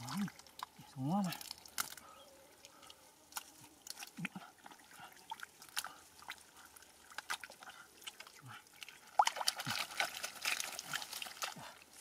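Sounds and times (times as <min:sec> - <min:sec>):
wet mud squelches: 0:00.0 - 0:12.0.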